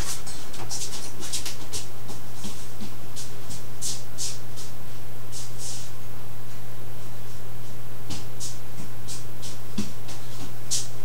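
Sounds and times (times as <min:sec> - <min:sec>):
rustling and scuffing: 0:00.0 - 0:05.9, 0:07.2 - 0:11.0
low hum: 0:00.0 - 0:11.0.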